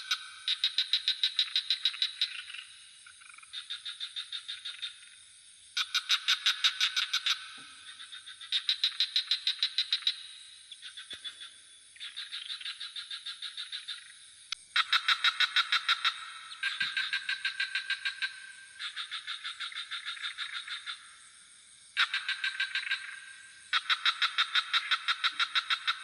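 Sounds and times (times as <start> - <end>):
crickets chirping: 0.0 - 26.0
frogs trilling: 0.0 - 26.0.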